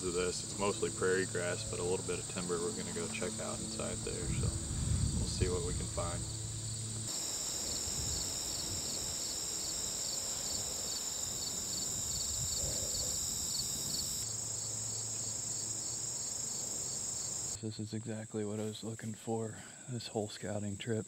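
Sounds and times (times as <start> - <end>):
cricket chirping: 0.0 - 17.6
high-pitched insect drone: 0.0 - 17.6.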